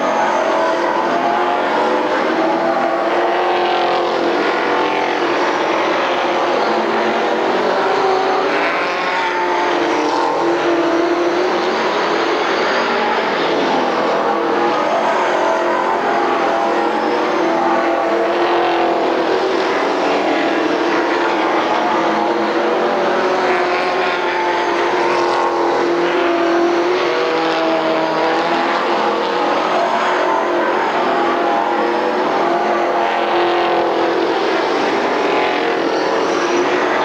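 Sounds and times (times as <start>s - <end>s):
race car engines: 0.0s - 37.0s.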